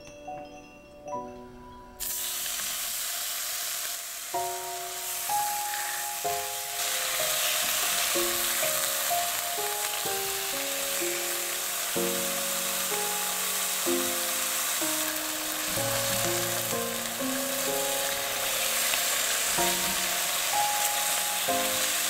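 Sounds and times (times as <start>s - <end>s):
soft background music: 0.0s - 2.8s, 4.1s - 22.0s
meat sizzling in a pan: 2.0s - 22.0s.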